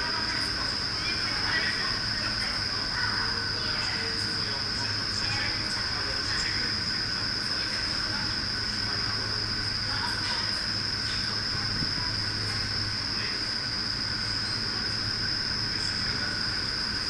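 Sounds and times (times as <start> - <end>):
wind tunnel air rush and fan drone: 0.0 - 17.0.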